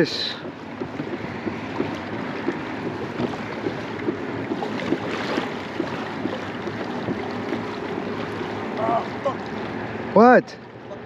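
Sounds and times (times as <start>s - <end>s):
wind buffeting microphone: 0.0s - 10.1s
water lapping against kayak: 0.0s - 11.0s.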